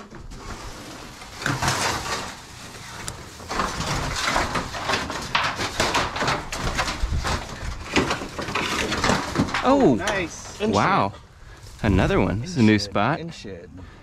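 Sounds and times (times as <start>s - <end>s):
objects scraping and rustling: 0.0s - 12.9s.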